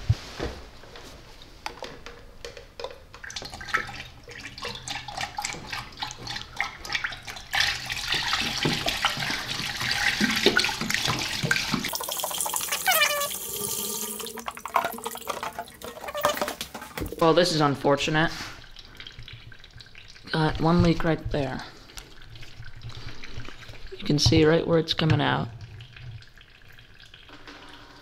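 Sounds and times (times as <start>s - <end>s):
liquid pouring and glugging: 1.7s - 28.0s.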